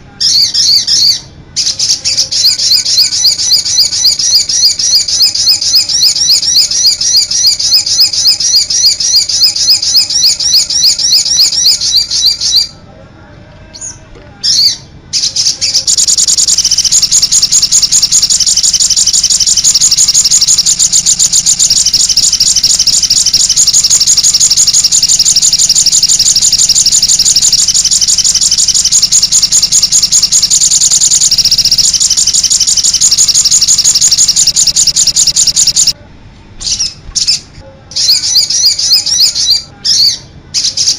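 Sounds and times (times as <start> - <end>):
dense high bird trill: 0.2 - 12.7, 13.8 - 36.0, 38.0 - 40.9
fast high bird chirps: 0.2 - 12.7, 14.5 - 36.0, 38.0 - 40.9.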